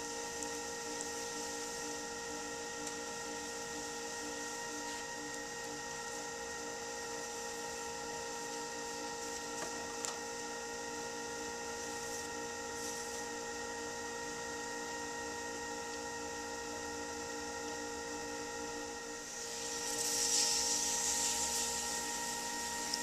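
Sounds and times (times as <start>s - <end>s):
potter's wheel motor whining: 0.0s - 23.0s.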